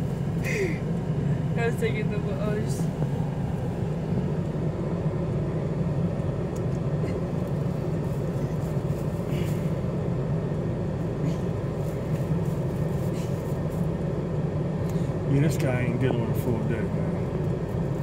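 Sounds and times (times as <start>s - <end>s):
traffic hum: 0.0s - 18.0s.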